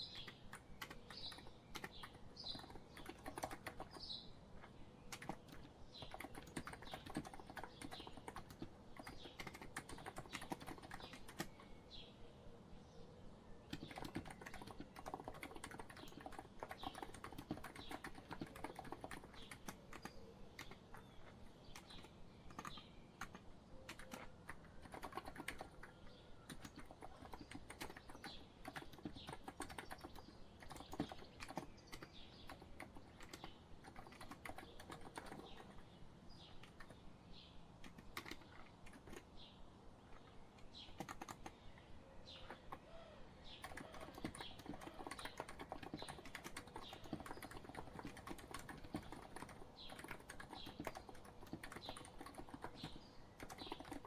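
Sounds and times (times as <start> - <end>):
soft keyboard typing: 0.0 - 11.8, 13.6 - 37.1, 37.8 - 54.0
faint bird chirps: 0.0 - 54.0.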